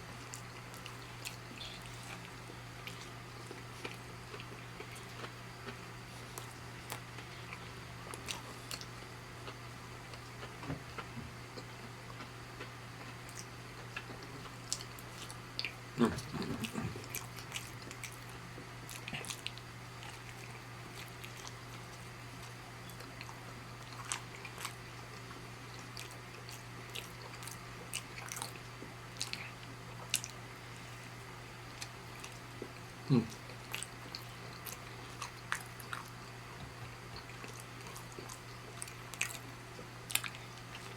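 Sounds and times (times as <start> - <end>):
biting and chewing: 0.2 - 30.4, 31.7 - 40.9.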